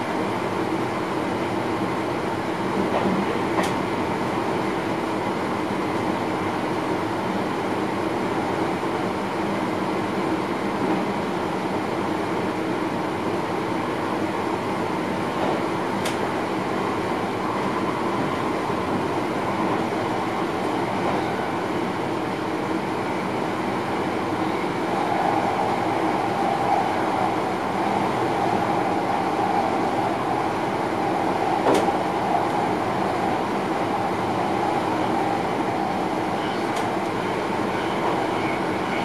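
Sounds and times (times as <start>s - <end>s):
train running on track: 0.0s - 39.0s.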